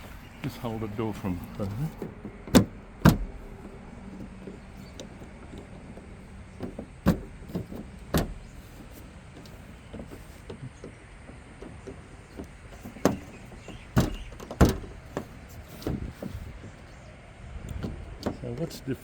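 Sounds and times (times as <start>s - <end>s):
clicks and knocks of door handle: 1.6s - 8.6s, 9.3s - 16.9s, 17.6s - 18.7s.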